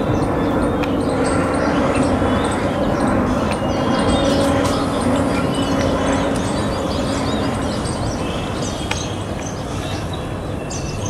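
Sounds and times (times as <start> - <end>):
jet engines rumbling: 0.0 - 11.0
low hum: 0.0 - 11.0
small birds chirping: 0.0 - 11.0.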